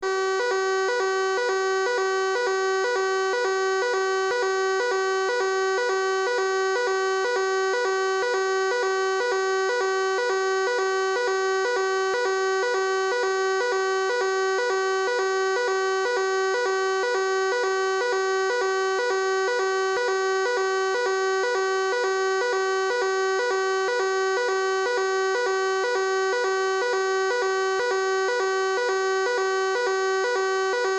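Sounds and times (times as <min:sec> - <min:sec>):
fire alarm steady tone: 0:00.0 - 0:30.9.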